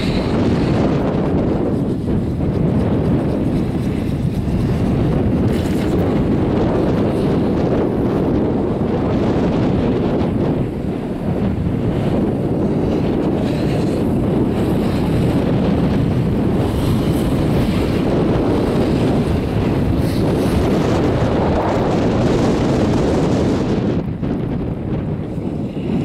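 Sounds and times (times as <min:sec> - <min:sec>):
wind blowing across microphone: 0:00.0 - 0:26.0.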